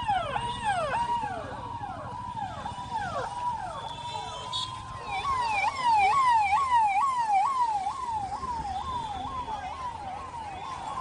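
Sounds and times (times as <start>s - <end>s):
emergency siren yelping: 0.0s - 11.0s.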